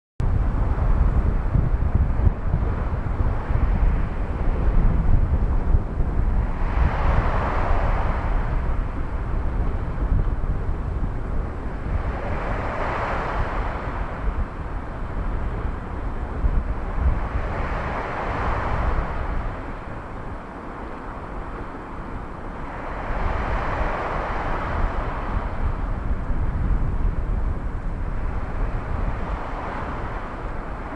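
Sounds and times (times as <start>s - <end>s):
wind buffeting microphone: 0.2s - 30.9s
small waves washing ashore: 0.4s - 30.9s.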